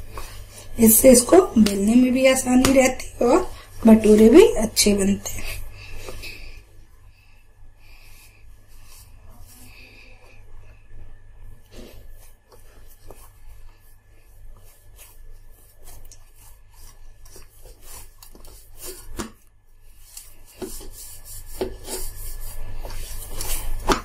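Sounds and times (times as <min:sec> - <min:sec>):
dough kneaded in steel bowl: 0:00.0 - 0:24.0.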